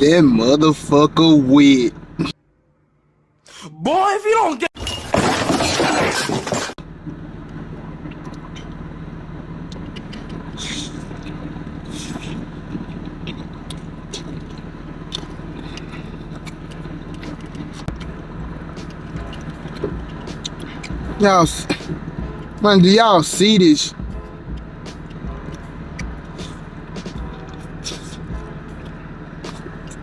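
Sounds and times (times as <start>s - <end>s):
car engine idling: 0.0s - 2.4s, 6.8s - 30.0s.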